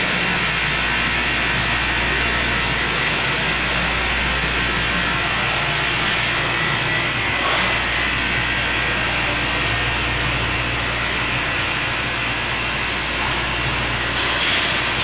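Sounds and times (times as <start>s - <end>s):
grinding machine motors running: 0.0s - 15.0s.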